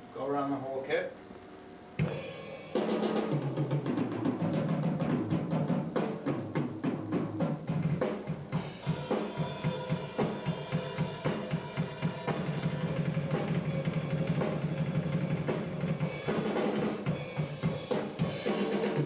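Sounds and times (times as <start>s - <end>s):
drum kit playing: 2.0s - 19.0s.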